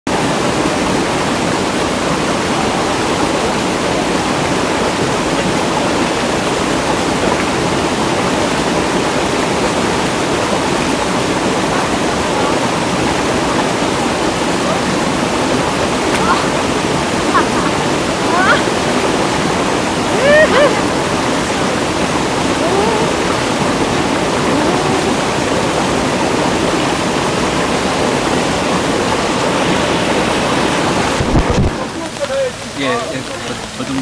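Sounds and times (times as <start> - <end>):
stream rushing over rocks: 0.1 - 34.0.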